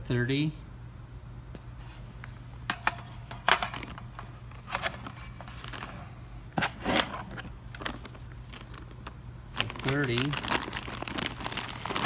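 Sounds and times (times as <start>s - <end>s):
plastic crinkling: 2.2s - 12.0s.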